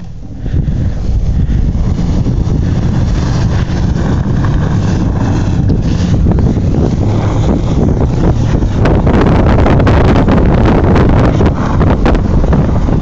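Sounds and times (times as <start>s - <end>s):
engine drone: 0.0s - 13.0s
wind buffeting microphone: 0.0s - 13.0s.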